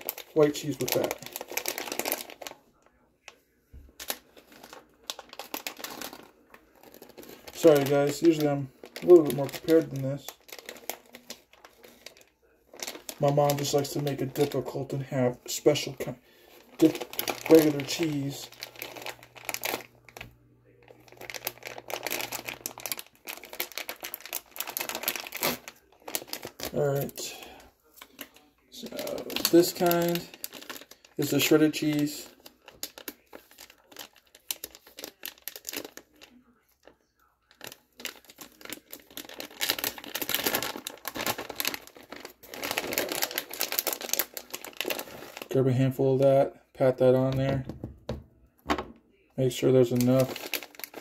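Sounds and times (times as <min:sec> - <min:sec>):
plastic bag crinkling: 0:00.0 - 0:48.0, 0:48.6 - 0:51.0.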